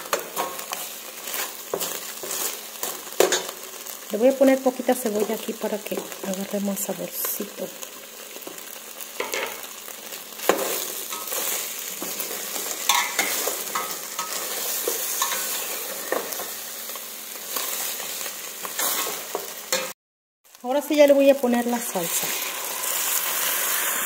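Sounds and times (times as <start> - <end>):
meat and onion sizzling: 0.0 - 24.0.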